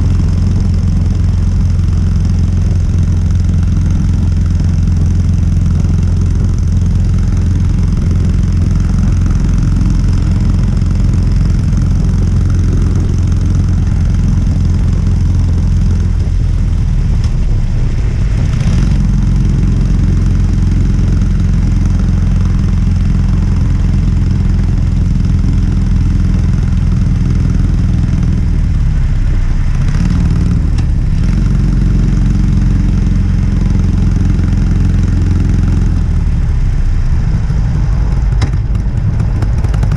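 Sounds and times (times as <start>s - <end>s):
motorcycle engine idling: 0.0s - 17.6s, 18.2s - 29.1s, 29.7s - 39.9s.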